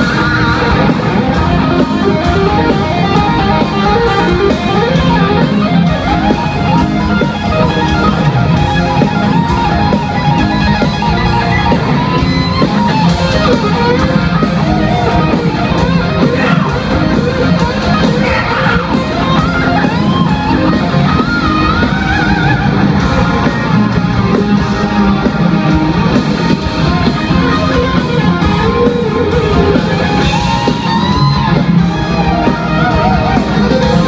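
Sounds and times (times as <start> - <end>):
bass: 0.0 - 34.0
electric guitar: 0.0 - 34.0.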